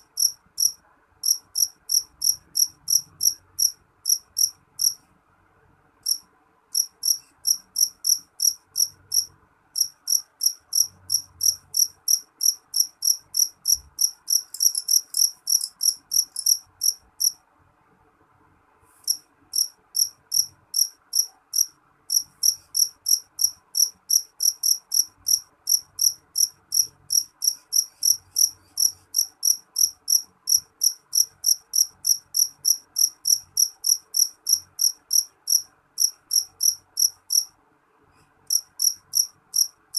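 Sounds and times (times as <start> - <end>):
cricket chirping: 0.0 - 5.0, 6.0 - 17.4, 19.0 - 37.5, 38.5 - 39.8.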